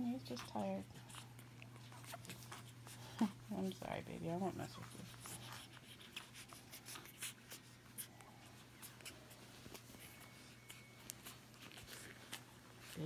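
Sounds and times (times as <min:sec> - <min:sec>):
low steady hum: 0:00.0 - 0:13.0
rustling on a blanket: 0:00.5 - 0:13.0.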